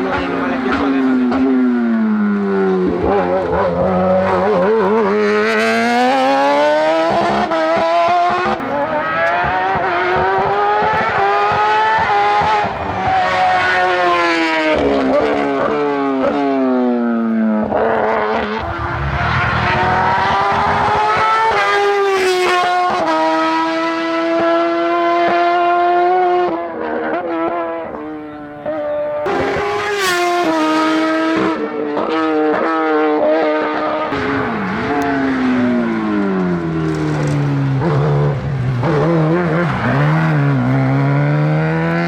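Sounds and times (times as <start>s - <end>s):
race car engine at full throttle: 0.0s - 42.0s.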